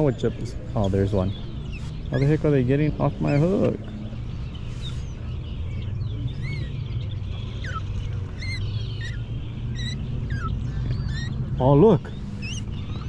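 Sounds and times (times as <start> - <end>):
birds chirping and whistling: 0.0 - 13.0
steady low rumble: 0.0 - 13.0.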